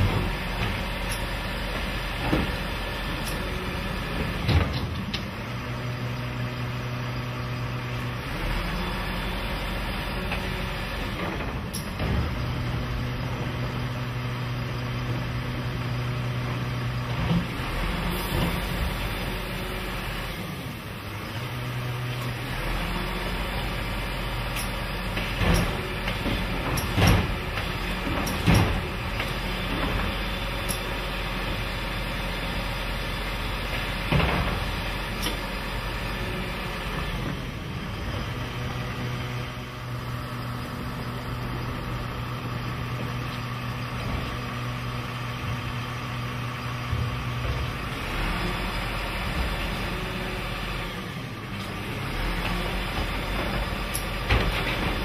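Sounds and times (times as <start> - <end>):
garbage truck engine rumbling: 0.0 - 55.0.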